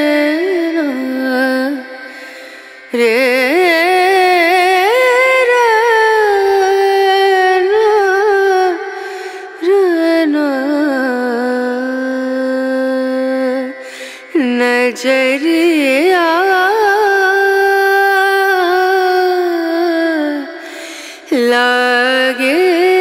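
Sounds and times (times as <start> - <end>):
slow song with wavering voice: 0.0 - 23.0.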